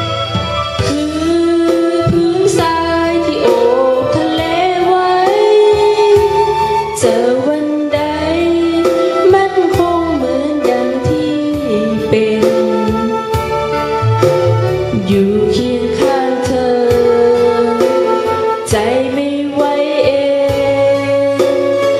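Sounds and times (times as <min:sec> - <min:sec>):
instrumental backing track: 0:00.0 - 0:21.9
woman singing into a microphone: 0:00.8 - 0:14.0, 0:14.7 - 0:21.9.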